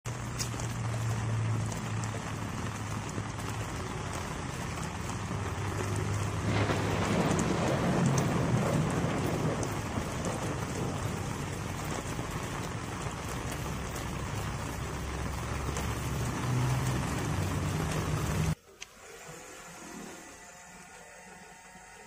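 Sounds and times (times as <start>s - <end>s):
rain falling on water: 0.1s - 18.6s.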